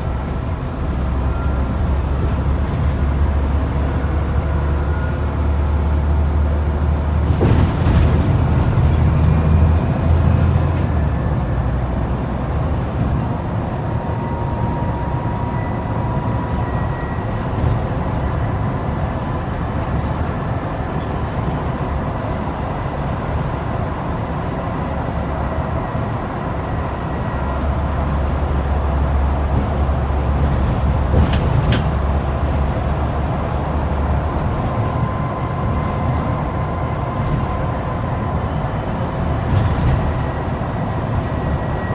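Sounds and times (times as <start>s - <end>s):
bus diesel engine droning: 0.0s - 41.9s.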